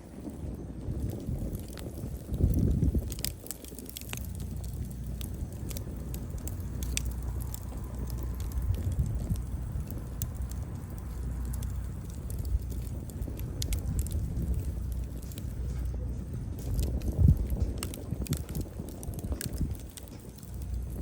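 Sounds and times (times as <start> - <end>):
firewood crackling and popping: 0.0 - 21.0
low rumble of flames: 0.0 - 21.0.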